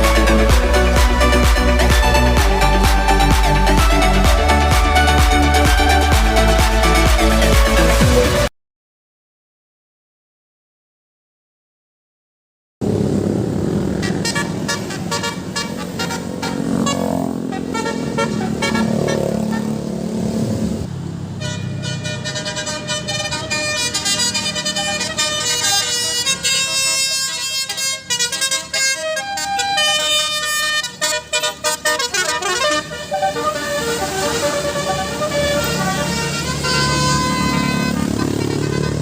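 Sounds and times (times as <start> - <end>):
bus engine rumble: 0.0 - 8.5, 12.8 - 39.0
bus multi-tone horn melody: 0.0 - 8.5, 13.9 - 20.5, 21.3 - 39.0.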